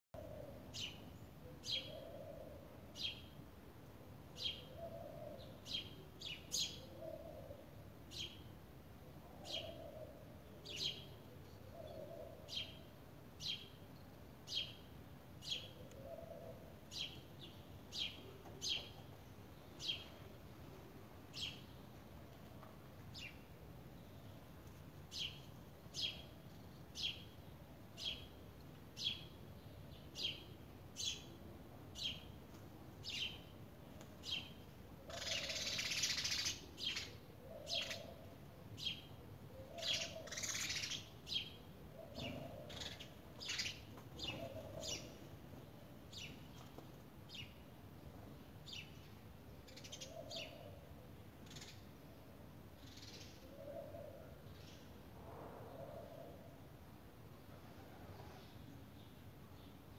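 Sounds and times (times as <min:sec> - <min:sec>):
sparrows chirping: 0:00.2 - 0:03.4, 0:04.4 - 0:08.6, 0:09.3 - 0:20.4, 0:21.2 - 0:22.0, 0:23.1 - 0:28.4, 0:29.0 - 0:32.4, 0:33.0 - 0:50.8, 0:51.4 - 0:51.9, 0:52.8 - 0:55.0.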